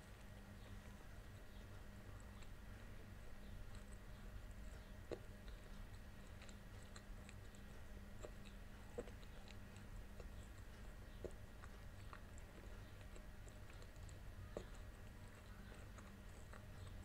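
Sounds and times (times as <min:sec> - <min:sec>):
faint low hum: 0:00.0 - 0:17.0
quiet chewing: 0:00.0 - 0:17.0
wet mouth clicks: 0:03.3 - 0:17.0.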